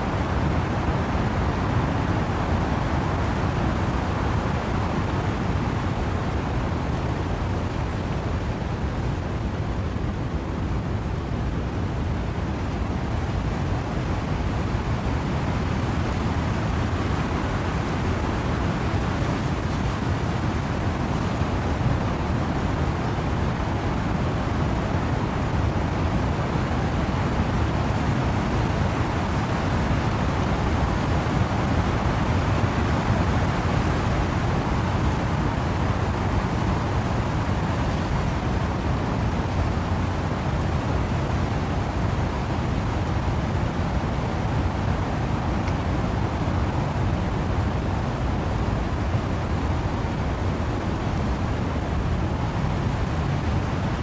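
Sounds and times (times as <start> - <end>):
wind and rain in trees: 0.0 - 54.0.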